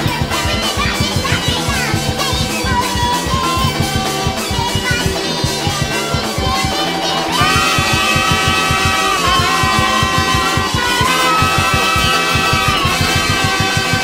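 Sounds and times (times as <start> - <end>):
bright guitars: 0.0 - 14.0
fast busy drums: 0.0 - 14.0
held high note: 0.0 - 14.0
sped-up rock song: 0.0 - 14.0.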